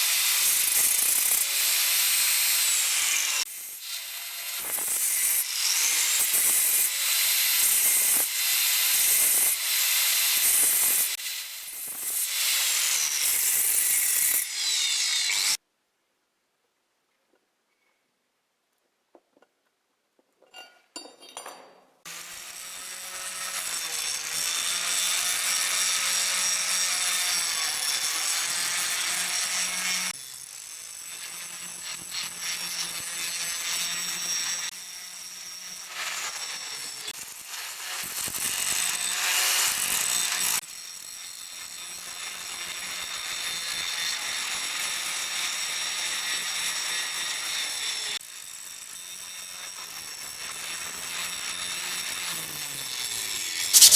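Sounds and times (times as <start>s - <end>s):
power tool grinding metal: 0.0s - 15.6s, 22.1s - 53.9s.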